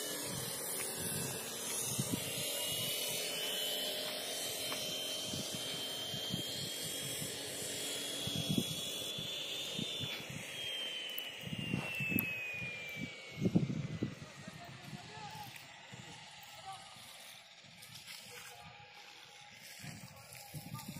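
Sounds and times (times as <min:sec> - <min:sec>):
faint high whine: 0:00.0 - 0:20.9
outdoor background noise: 0:00.0 - 0:20.9.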